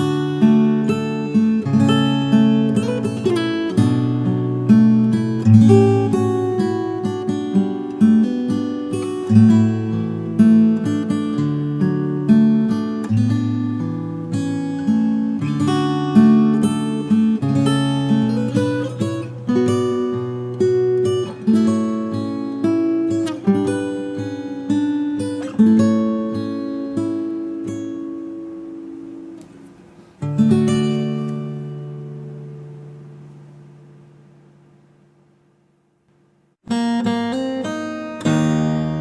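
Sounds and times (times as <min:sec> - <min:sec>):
acoustic guitar instrumental: 0:00.0 - 0:39.0.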